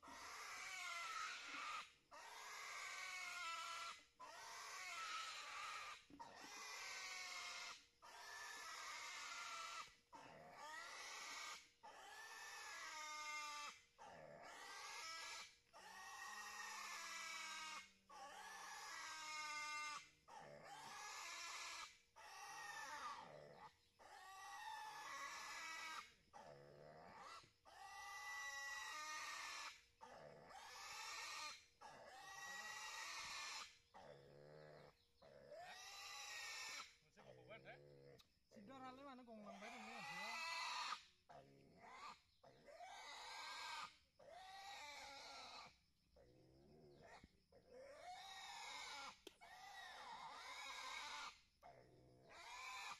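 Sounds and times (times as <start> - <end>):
piglet squealing in distress: 0.0 - 38.1, 39.4 - 46.3, 47.0 - 52.9.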